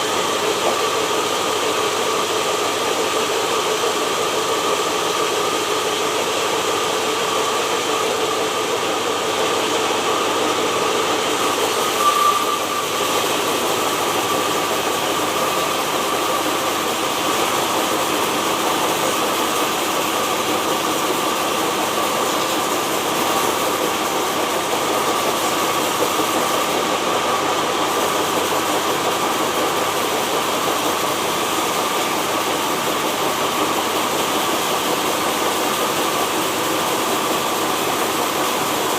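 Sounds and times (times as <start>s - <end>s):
sawmill machinery whining: 0.0s - 38.9s.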